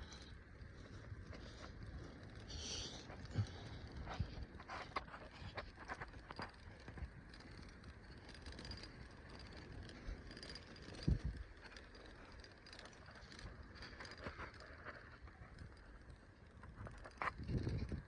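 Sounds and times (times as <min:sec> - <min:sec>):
bicycle tyres rumbling: 0:00.0 - 0:18.0.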